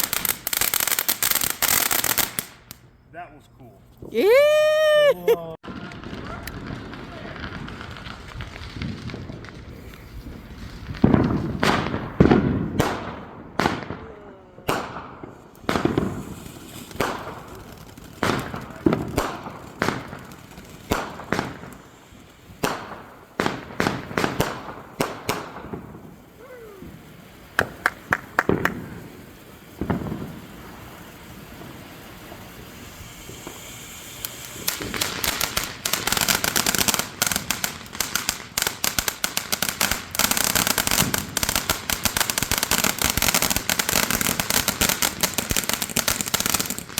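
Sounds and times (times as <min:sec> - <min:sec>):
fireworks booming: 0:00.0 - 0:02.8, 0:05.6 - 0:46.9
fireworks sharp cracks: 0:00.0 - 0:03.0, 0:05.6 - 0:46.9.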